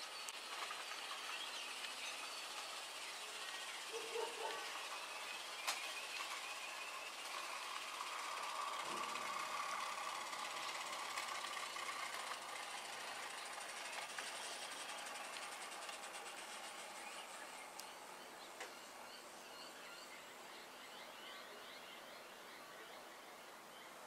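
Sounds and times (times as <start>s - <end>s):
model tram motor whine: 0.0s - 24.0s
wheels running on rails: 0.0s - 24.0s.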